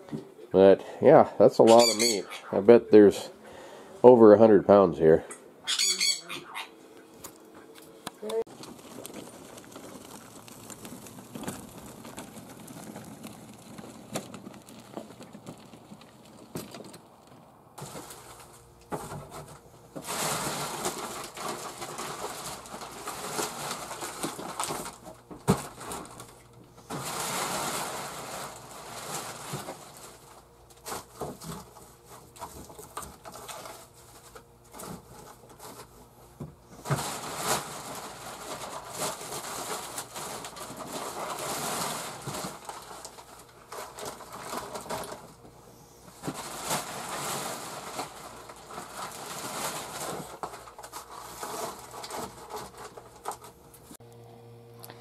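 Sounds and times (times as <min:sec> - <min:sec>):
plastic packages rustling: 0:08.3 - 0:54.0.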